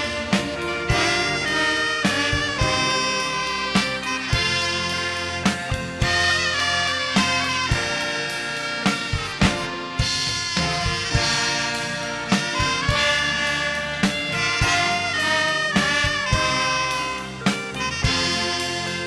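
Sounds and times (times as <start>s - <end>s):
brass melody: 0.0s - 19.0s
drum kit beat: 0.0s - 19.0s.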